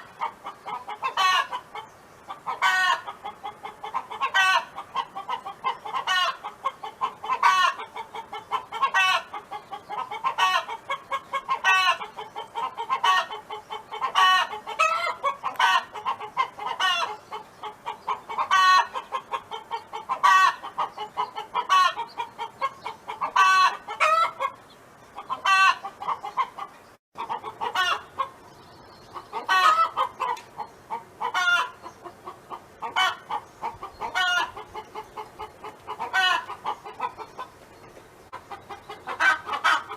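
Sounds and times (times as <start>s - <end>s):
hen clucking: 0.0s - 39.9s.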